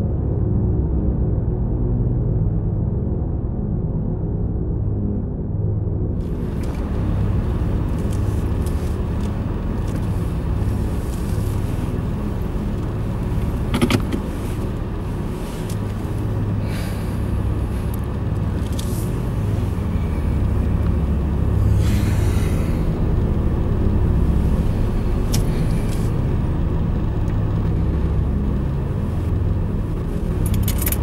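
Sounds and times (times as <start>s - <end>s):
car engine and road hum: 6.1s - 31.0s.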